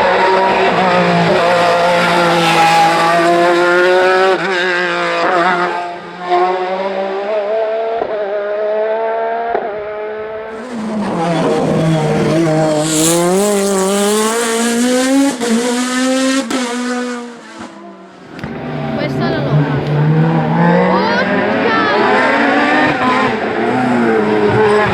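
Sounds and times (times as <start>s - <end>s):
race car engine revving: 0.0s - 24.9s.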